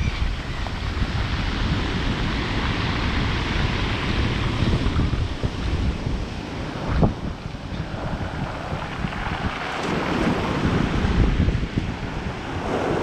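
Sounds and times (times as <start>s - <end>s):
surf washing over pebble beach: 0.0s - 13.0s
wind buffeting microphone: 0.0s - 13.0s.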